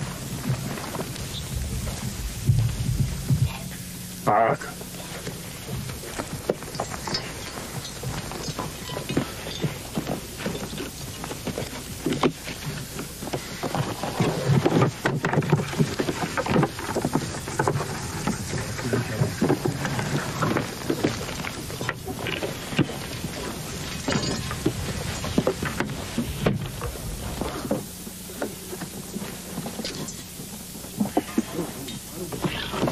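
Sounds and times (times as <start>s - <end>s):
footsteps on stony ground: 0.0s - 32.9s.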